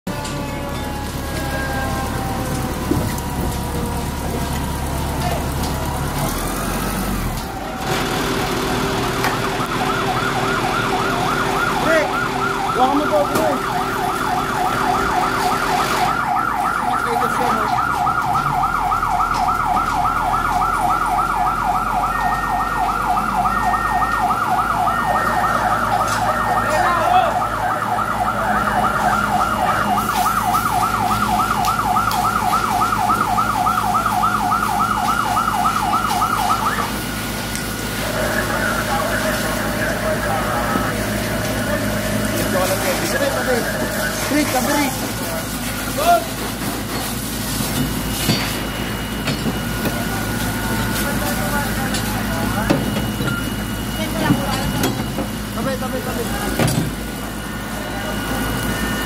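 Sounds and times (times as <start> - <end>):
siren yelping: 0.1 - 46.4, 48.7 - 59.0.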